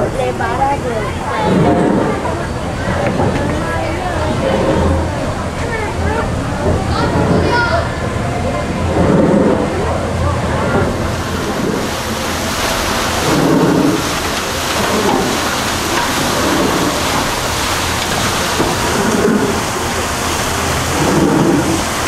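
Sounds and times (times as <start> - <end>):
paddlewheel churning water: 0.0 - 22.0.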